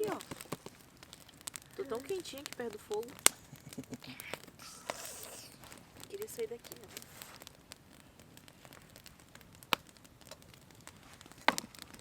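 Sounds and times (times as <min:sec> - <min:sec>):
burning wood popping: 0:00.0 - 0:12.0
campfire crackling: 0:00.0 - 0:12.0.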